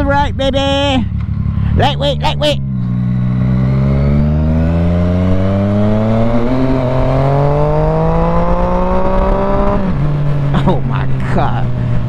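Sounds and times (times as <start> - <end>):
low wind rumble: 0.0 - 12.0
motorcycle engine accelerating: 0.0 - 12.0.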